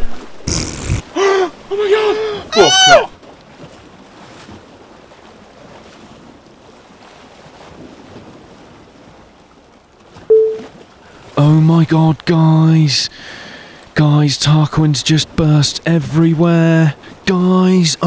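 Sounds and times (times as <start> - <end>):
waves washing: 0.0 - 18.0
wind: 0.0 - 18.0.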